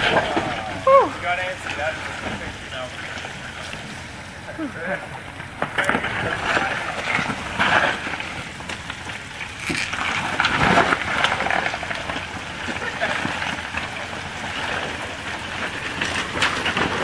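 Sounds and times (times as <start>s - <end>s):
gravel crunching under tyres: 0.0s - 17.0s.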